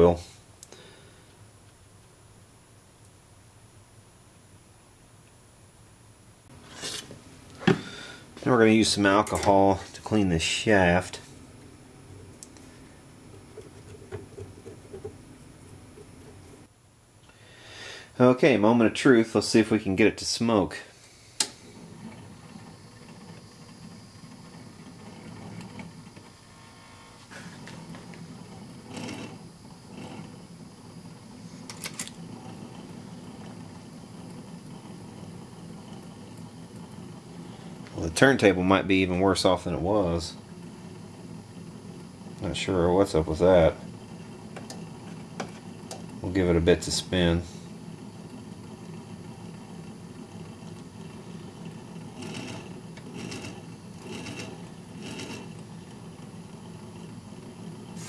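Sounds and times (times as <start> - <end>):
record changer motor hum: 5.2 - 16.7, 21.2 - 58.0.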